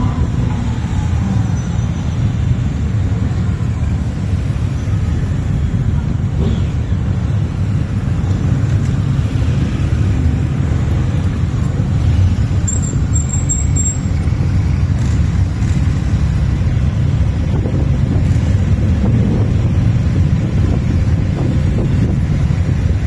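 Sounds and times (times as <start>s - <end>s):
motorcycle engines rumbling: 0.0s - 23.0s.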